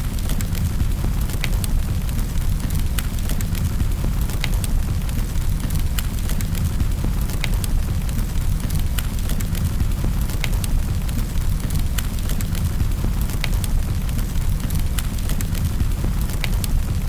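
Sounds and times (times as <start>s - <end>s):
burning logs crackling: 0.0s - 17.0s.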